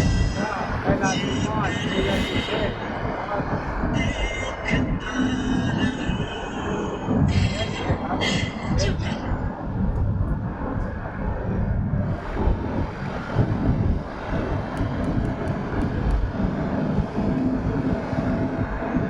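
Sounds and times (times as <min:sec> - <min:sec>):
vehicle rumble: 0:00.0 - 0:19.0
wind buffeting microphone: 0:00.0 - 0:19.0.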